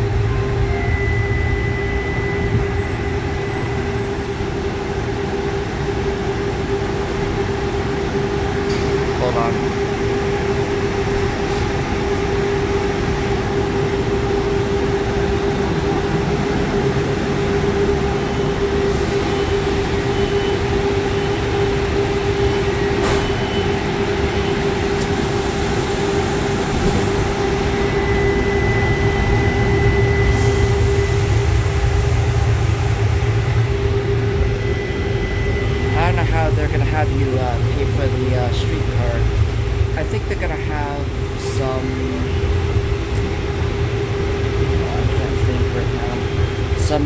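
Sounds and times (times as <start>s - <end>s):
electrical hum: 0.0s - 47.0s
low running rumble: 0.0s - 47.0s.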